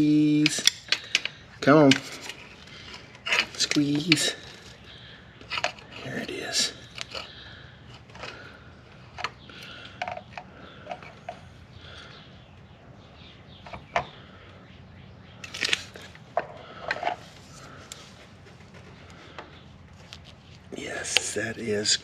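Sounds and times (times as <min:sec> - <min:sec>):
handling noises: 0:00.0 - 0:12.8, 0:15.4 - 0:21.5.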